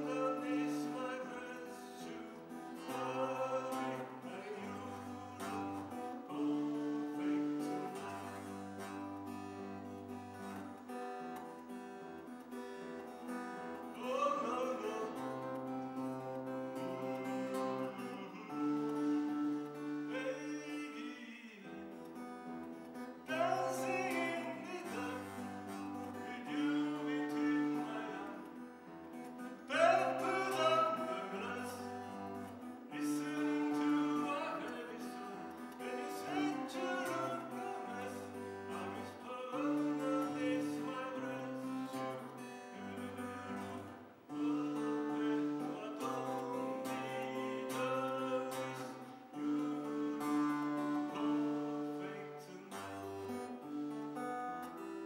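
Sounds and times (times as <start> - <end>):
man singing: 0.0 - 9.4, 13.7 - 22.2, 23.1 - 53.6
acoustic guitar chords: 0.0 - 55.0.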